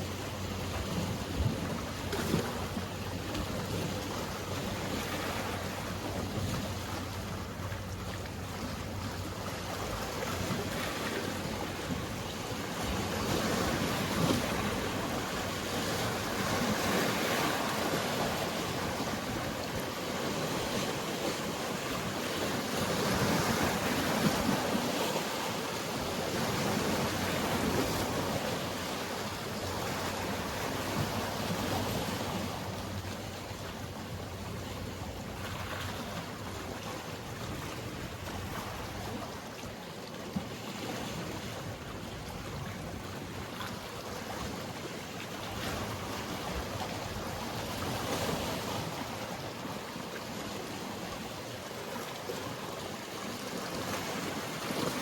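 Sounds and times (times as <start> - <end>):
sea waves washing on shore: 0.0 - 55.0.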